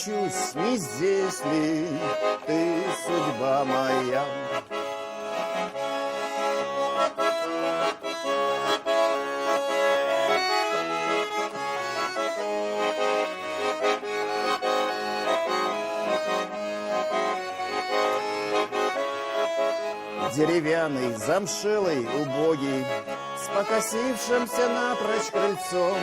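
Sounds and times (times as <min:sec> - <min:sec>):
accordion melody over chords: 0:00.0 - 0:26.0.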